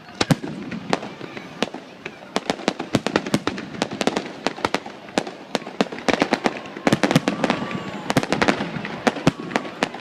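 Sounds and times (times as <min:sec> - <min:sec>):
fireworks bangs and crackling pops: 0:00.0 - 0:10.0.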